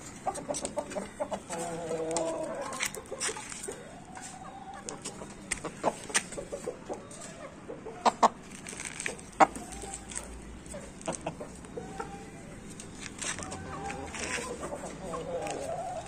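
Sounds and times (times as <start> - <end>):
chicken clucking: 0.0 - 16.0.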